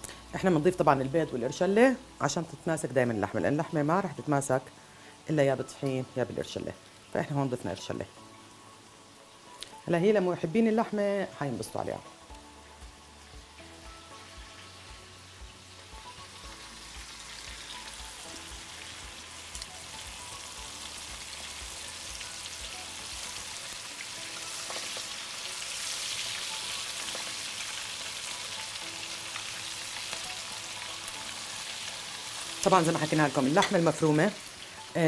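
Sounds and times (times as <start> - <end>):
meatballs sizzling in oil: 0.0 - 35.0.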